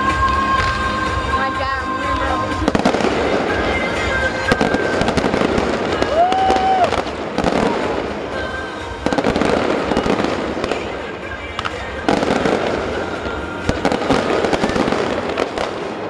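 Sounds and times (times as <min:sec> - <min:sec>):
fireworks bursting: 0:00.0 - 0:16.0
music playing: 0:00.0 - 0:16.0.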